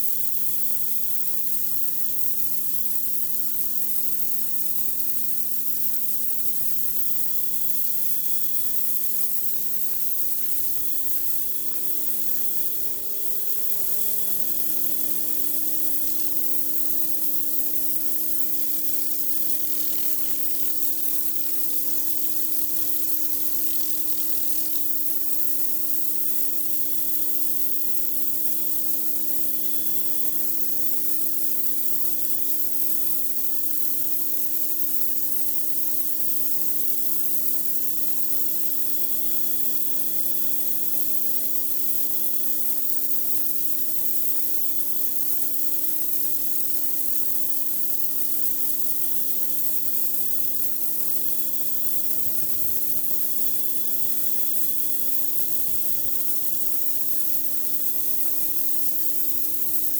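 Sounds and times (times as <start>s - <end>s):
motor and pump hum: 0.0s - 59.9s.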